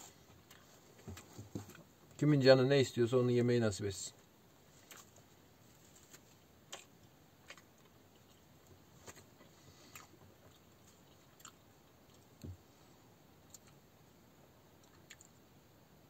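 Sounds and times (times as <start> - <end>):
man chewing bread: 0.0 - 2.0, 4.2 - 15.6.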